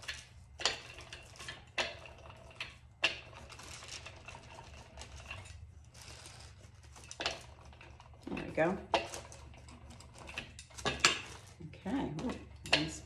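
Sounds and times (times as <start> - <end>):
rubber roller strokes on plastic sheet: 0.0 - 13.0.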